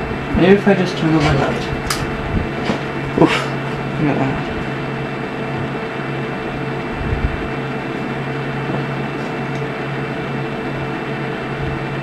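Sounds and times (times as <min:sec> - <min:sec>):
fan-like hum and hiss: 0:00.0 - 0:12.0.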